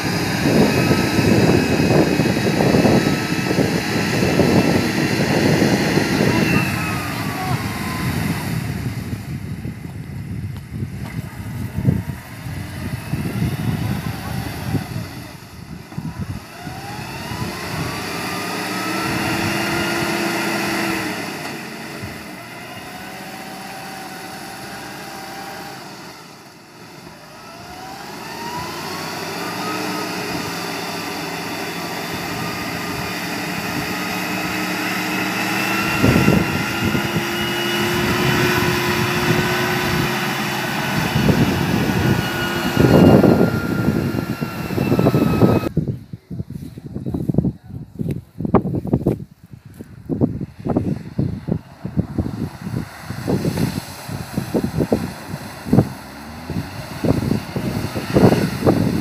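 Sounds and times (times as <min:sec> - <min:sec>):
engine revving hard: 0:00.0 - 0:09.4, 0:11.0 - 0:45.7, 0:51.4 - 0:59.0
heavy rumbling bursts: 0:00.0 - 0:25.5, 0:27.2 - 0:59.0.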